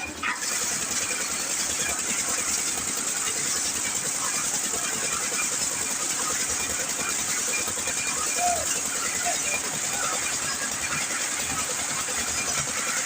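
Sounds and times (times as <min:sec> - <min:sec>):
concrete mixer engine running: 0:00.0 - 0:13.0.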